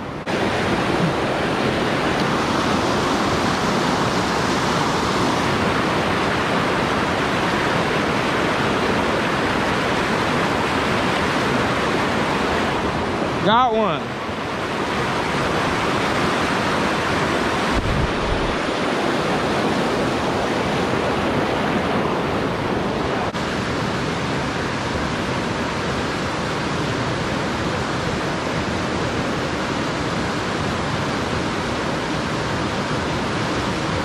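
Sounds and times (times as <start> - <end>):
stream water rushing over boulders: 0.0 - 34.0.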